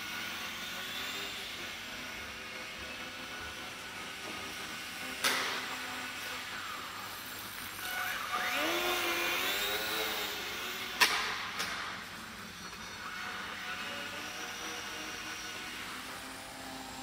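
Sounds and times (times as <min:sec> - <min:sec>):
electric motor and propeller whining: 0:00.0 - 0:17.0.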